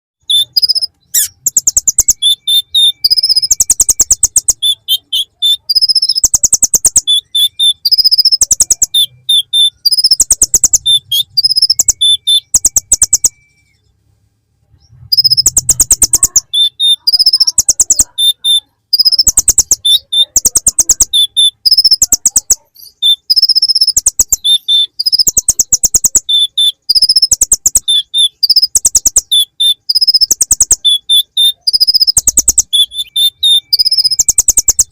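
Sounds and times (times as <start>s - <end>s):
sunbird singing trills: 0.2s - 13.8s, 15.1s - 34.9s.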